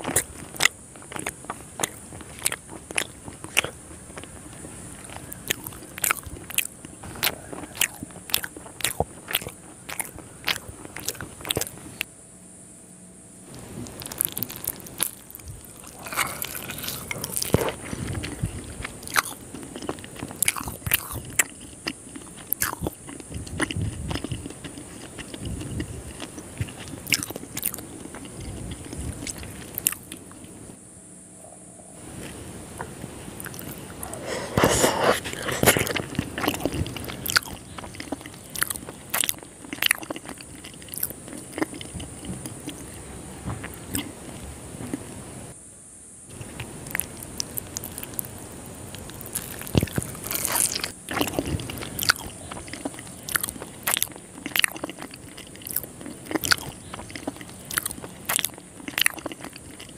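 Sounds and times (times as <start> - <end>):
chewing: 0.0 - 12.1, 13.5 - 30.6, 31.4 - 45.2, 46.3 - 59.9.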